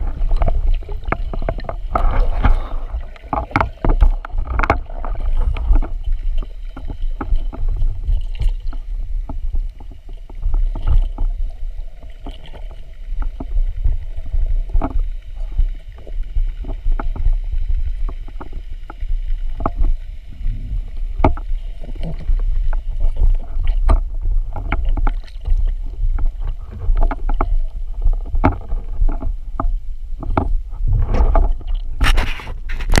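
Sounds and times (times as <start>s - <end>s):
low underwater rumble: 0.0s - 33.0s.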